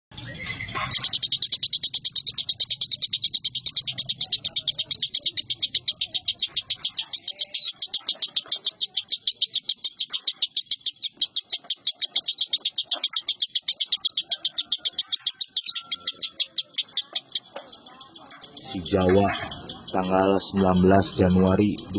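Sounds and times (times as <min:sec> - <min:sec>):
lovebird chattering trill: 0:00.1 - 0:21.9.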